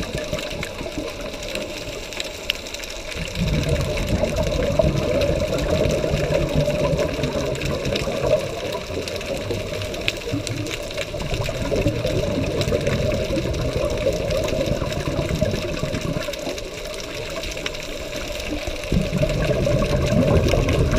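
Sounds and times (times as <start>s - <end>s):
muffled underwater rumble: 0.0s - 20.9s.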